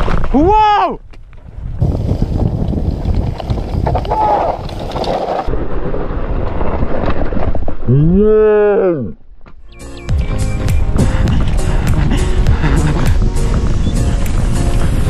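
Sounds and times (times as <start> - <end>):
bike tyre rumble: 0.0 - 8.4, 10.3 - 15.0
wind buffeting microphone: 0.4 - 7.9, 10.1 - 15.0.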